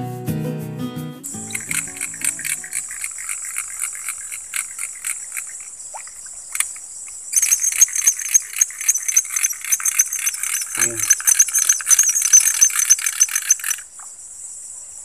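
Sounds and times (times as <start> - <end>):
insects chirping: 1.2 - 15.0
pulsing insect call: 1.2 - 15.0.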